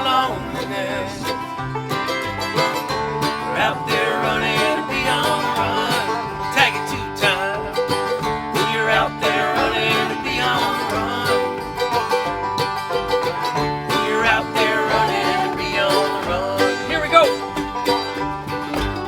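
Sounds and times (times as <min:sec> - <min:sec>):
string band playing bluegrass: 0:00.0 - 0:19.0.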